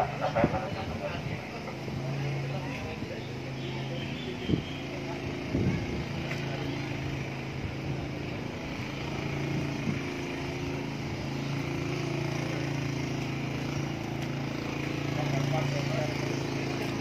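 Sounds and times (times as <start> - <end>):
small scooter engine running: 0.0 - 17.0.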